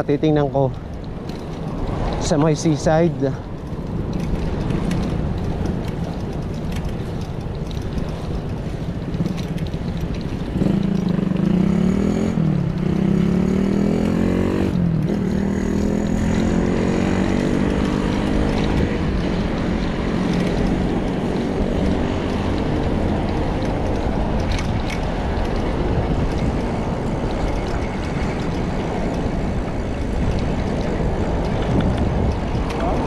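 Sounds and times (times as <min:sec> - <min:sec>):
wheels rolling over brick pavers: 0:00.0 - 0:33.0
wind rumble: 0:00.0 - 0:33.0.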